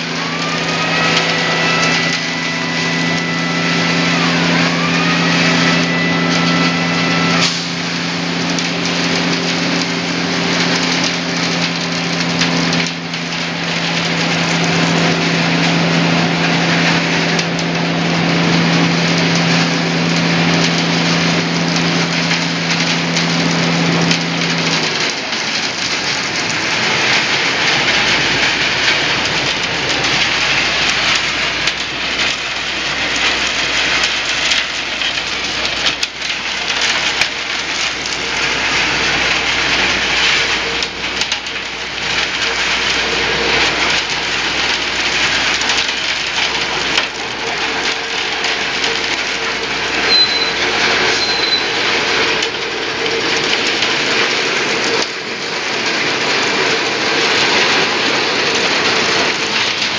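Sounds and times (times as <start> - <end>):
machine rushing and rattling: 0.0 - 59.9.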